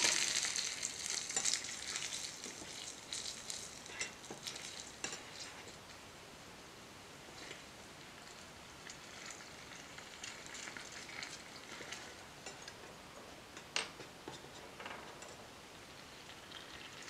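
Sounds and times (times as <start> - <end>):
faint sizzling of food frying: 0.0 - 17.0.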